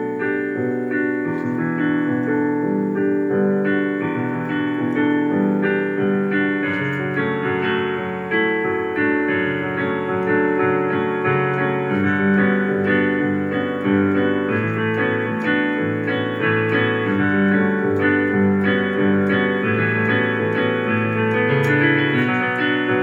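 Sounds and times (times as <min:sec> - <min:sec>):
keyboard playing piano chords: 0:00.0 - 0:23.0.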